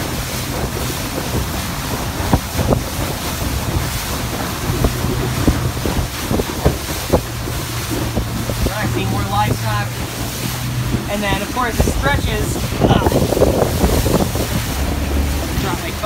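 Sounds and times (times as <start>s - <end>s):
outboard motor humming: 0.0s - 16.0s
water rushing along hull: 0.0s - 16.0s
wind buffeting microphone: 0.0s - 16.0s.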